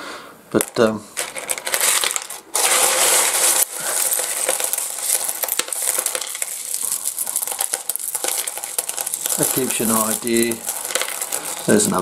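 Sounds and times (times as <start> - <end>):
stones clattering and clinking: 0.6 - 12.0
stones sliding over one another: 1.4 - 12.0.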